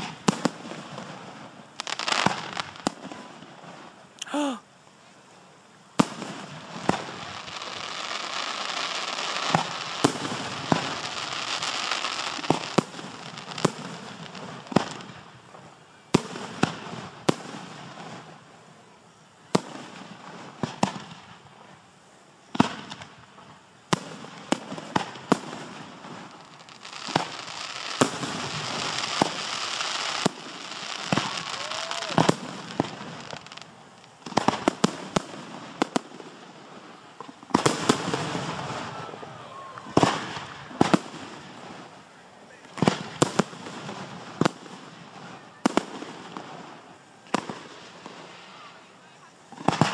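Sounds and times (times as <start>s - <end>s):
fireworks bangs: 0.0s - 4.6s, 6.0s - 18.4s, 19.5s - 21.8s, 22.5s - 49.9s
fireworks crackling hiss: 0.0s - 49.9s.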